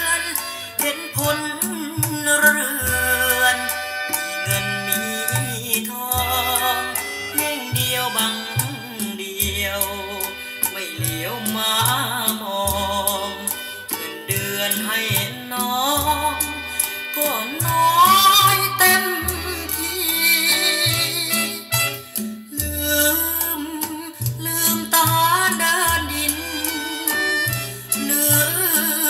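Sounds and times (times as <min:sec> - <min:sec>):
repeated bass notes: 0:00.0 - 0:29.0.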